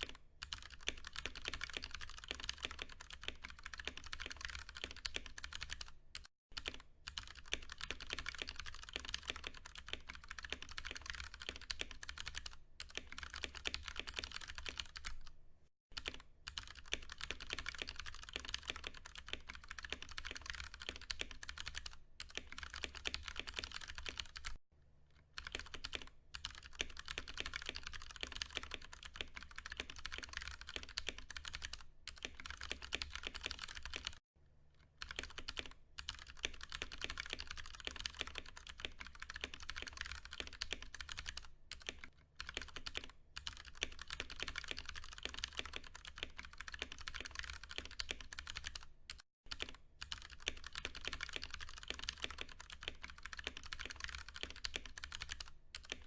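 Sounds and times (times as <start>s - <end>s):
fast typing on mechanical keyboard: 0.0s - 15.3s, 16.0s - 24.6s, 25.4s - 34.2s, 35.0s - 56.0s.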